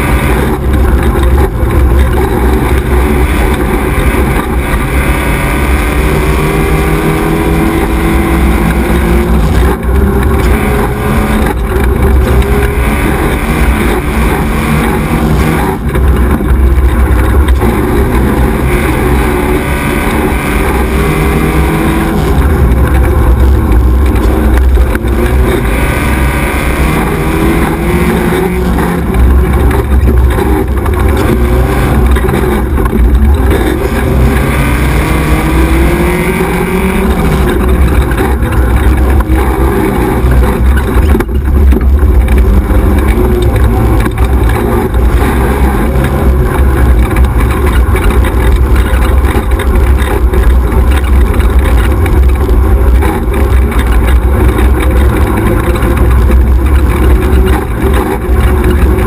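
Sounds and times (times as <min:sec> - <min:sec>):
buggy engine revving under load: 0:00.0 - 0:59.0.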